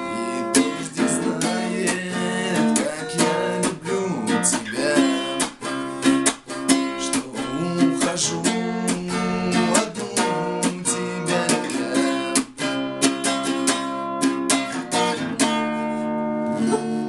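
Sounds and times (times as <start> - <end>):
strummed guitar chords: 0.0 - 17.0.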